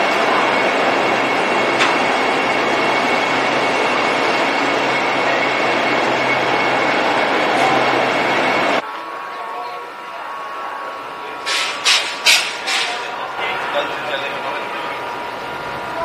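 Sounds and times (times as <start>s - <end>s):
electric train running: 0.0s - 16.0s.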